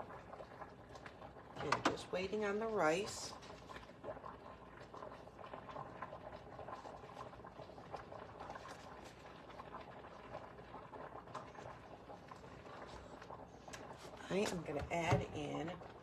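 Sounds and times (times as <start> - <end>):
rice pot bubbling: 0.0 - 16.0.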